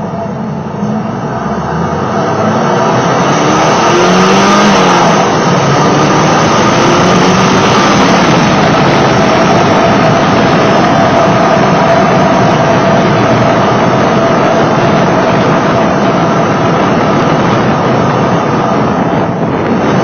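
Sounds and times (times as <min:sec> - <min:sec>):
supercharged car engine accelerating: 0:00.0 - 0:20.0.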